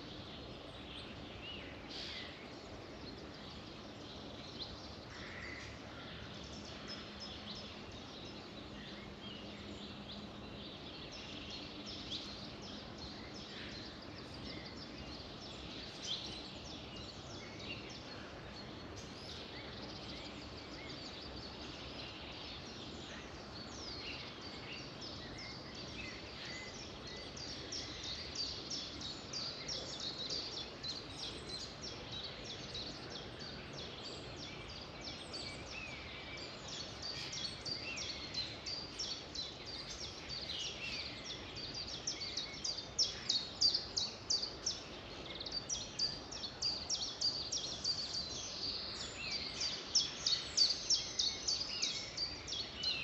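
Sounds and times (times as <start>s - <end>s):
songbirds chirping and singing: 0.0s - 53.0s
steady background hiss: 0.0s - 53.0s.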